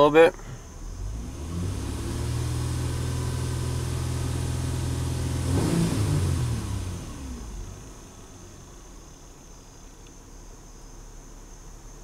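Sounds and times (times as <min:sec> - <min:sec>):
car engine running at raised revs: 0:00.0 - 0:12.0.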